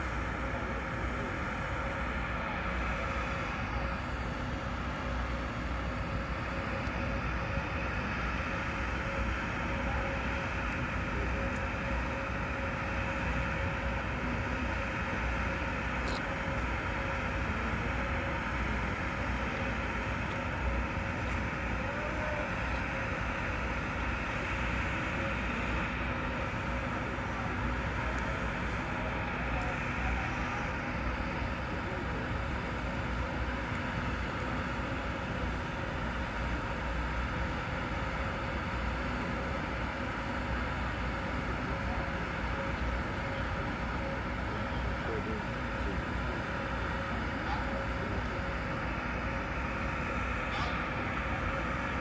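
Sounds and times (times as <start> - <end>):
machinery hum and rumble: 0.0 - 52.0.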